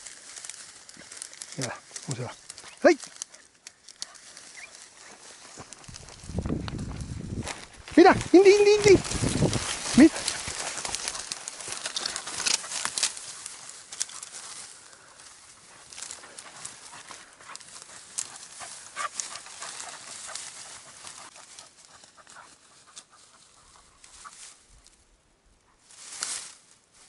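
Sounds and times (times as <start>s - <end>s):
twigs cracking: 0.0s - 25.0s, 26.0s - 26.7s
dry brush rustling: 0.0s - 25.1s, 25.8s - 27.0s.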